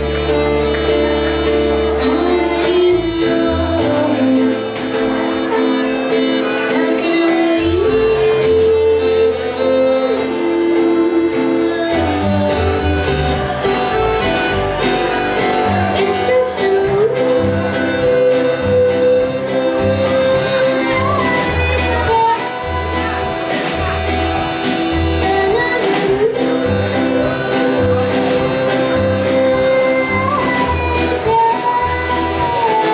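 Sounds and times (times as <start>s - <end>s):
acoustic folk band playing: 0.0s - 32.9s.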